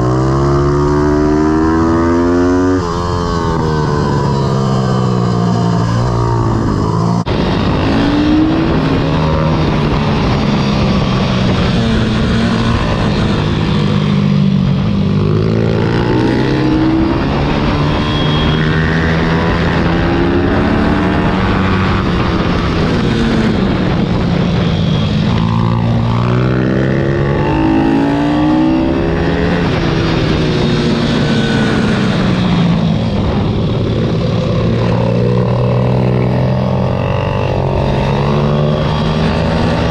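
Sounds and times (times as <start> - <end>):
motorbike engine revving: 0.0 - 39.9
second engine: 0.0 - 39.9.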